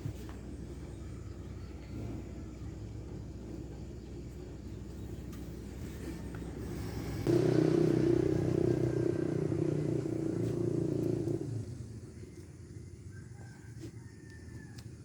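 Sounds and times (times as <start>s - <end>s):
vehicle engine running: 0.0s - 13.1s.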